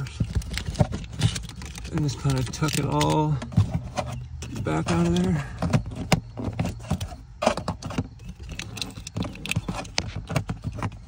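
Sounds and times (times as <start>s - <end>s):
plastic trim rustles and scrapes: 0.0s - 11.0s.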